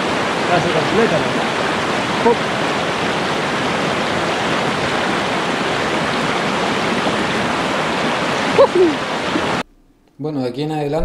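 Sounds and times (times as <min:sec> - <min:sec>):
river rushing over rocks: 0:00.0 - 0:09.6.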